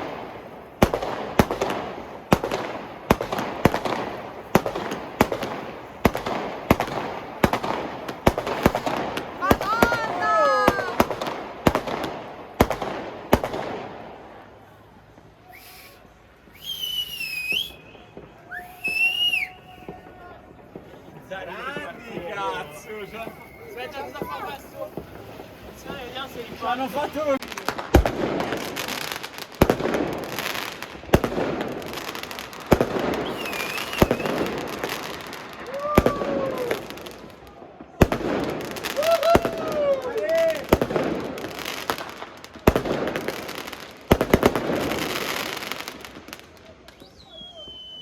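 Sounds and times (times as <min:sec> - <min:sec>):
firework bangs: 0:00.0 - 0:48.0
whistling fireworks: 0:00.0 - 0:48.0.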